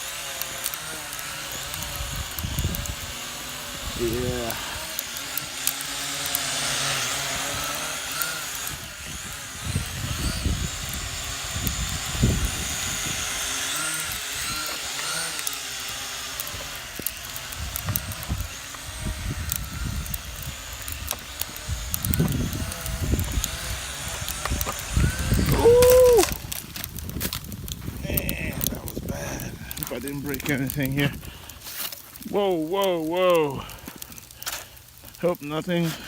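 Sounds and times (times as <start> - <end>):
drone motors whining: 0.0 - 32.0
wind buffeting microphone: 0.8 - 31.7.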